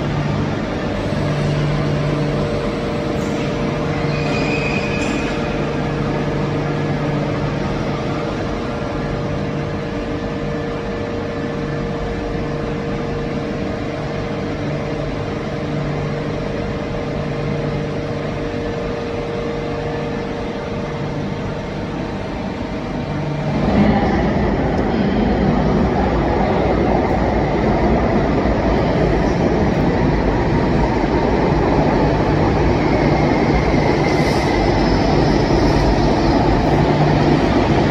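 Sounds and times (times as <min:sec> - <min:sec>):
approaching train rumble: 0:00.0 - 0:37.9
train equipment humming: 0:00.0 - 0:37.9.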